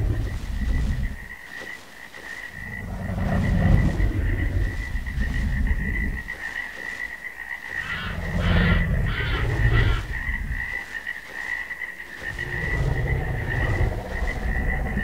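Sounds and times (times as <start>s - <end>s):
low pulsing croaking growls: 0.0s - 15.0s.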